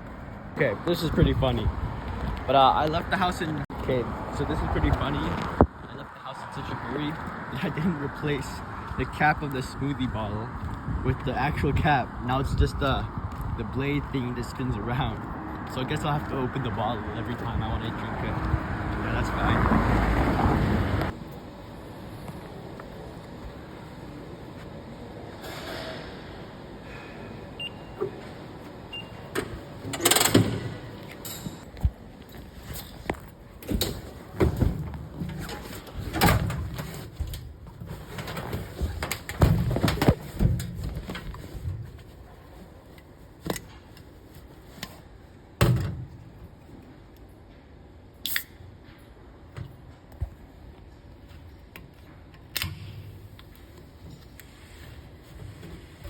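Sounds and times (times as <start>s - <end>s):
street traffic: 0.0s - 56.0s.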